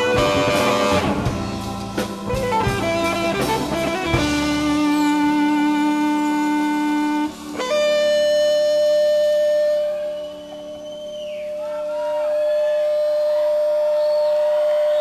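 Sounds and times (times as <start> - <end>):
electric guitar sustained notes: 0.0 - 15.0.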